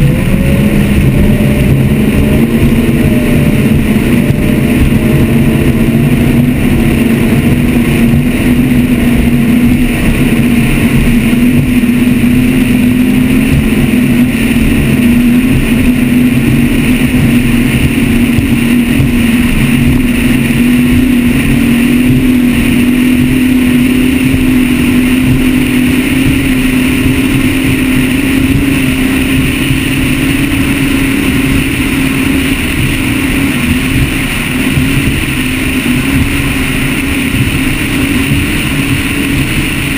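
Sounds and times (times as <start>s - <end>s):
boat engine drone: 0.0s - 39.9s
water rushing past: 0.0s - 39.9s
wind rushing: 0.0s - 39.9s.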